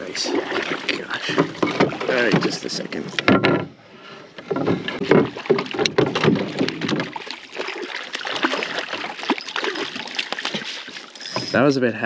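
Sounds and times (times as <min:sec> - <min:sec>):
water splashing: 0:00.0 - 0:03.2, 0:04.7 - 0:11.7
knocks and bumps in a canoe: 0:00.0 - 0:11.6.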